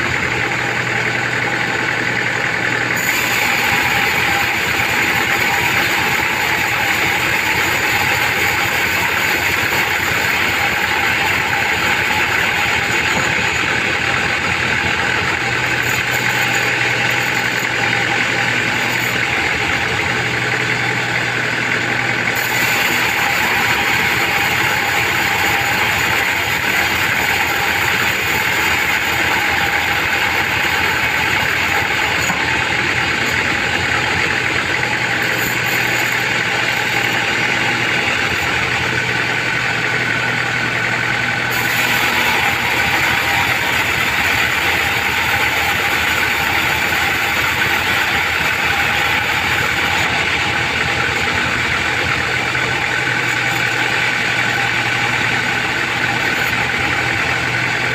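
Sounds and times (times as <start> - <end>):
band saw whirring: 0.0 - 57.9.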